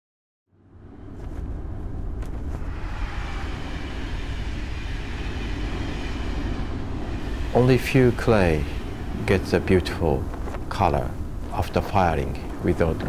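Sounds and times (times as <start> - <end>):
steady low rumbling: 0.5 - 13.0.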